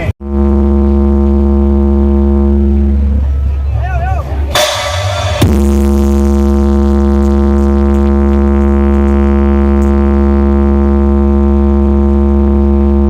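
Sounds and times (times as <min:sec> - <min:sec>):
loud deep bass tone: 0:00.0 - 0:13.0
steady droning note: 0:00.0 - 0:13.0.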